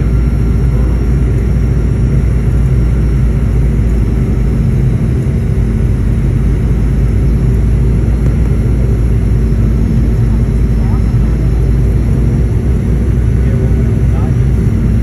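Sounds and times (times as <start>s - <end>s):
aircraft engines and rushing air: 0.0s - 15.0s
low steady hum: 0.0s - 15.0s.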